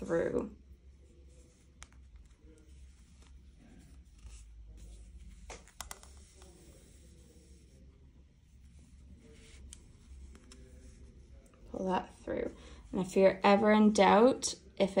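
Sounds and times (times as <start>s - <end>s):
yarn rustling through stitches: 0.0s - 12.5s.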